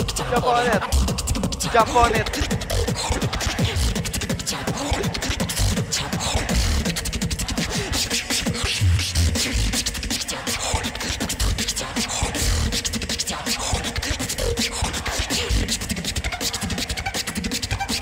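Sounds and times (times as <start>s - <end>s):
beatboxing into microphone: 0.0s - 18.0s.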